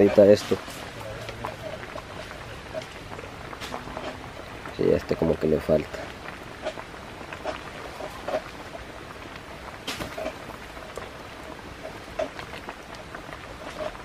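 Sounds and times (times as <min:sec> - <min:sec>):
soup bubbling in a pot: 0:00.0 - 0:14.0
wood fire crackling: 0:00.0 - 0:14.0.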